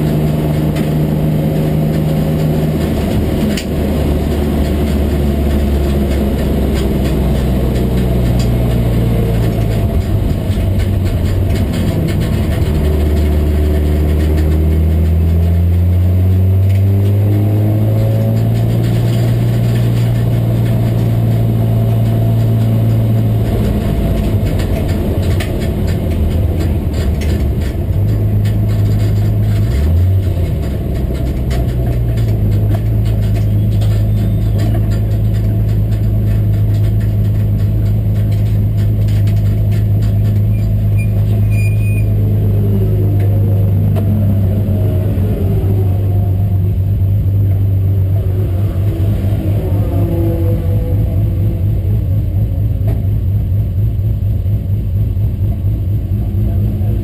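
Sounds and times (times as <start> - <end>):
race car engine from inside: 0.0 - 57.0.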